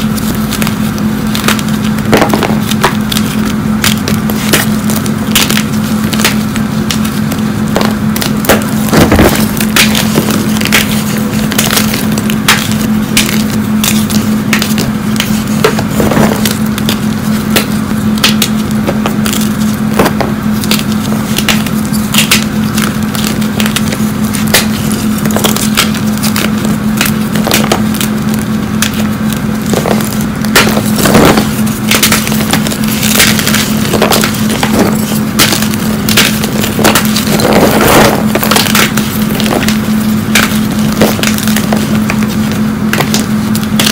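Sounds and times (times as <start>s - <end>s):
chalk crunching and crackling: 0.0s - 43.9s
steady low hum: 0.0s - 43.9s.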